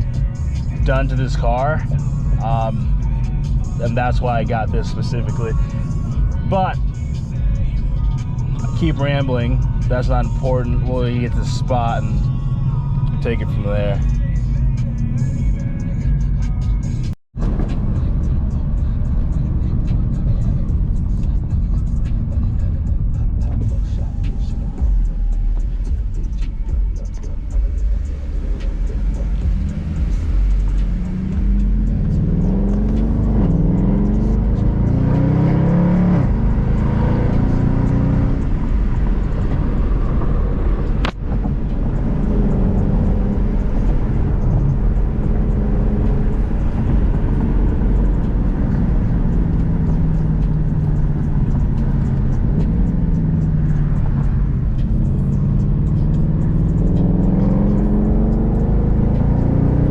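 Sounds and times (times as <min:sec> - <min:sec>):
car engine accelerating through gears: 0:00.0 - 0:59.9.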